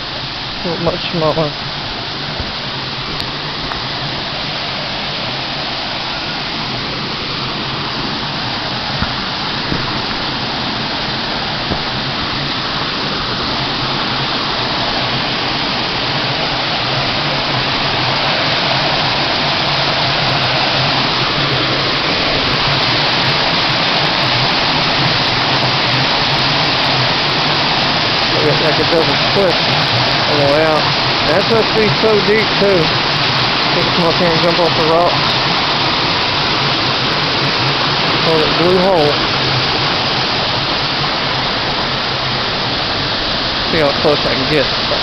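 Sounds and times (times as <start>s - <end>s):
waterfall splashing into pool: 0.0s - 45.0s.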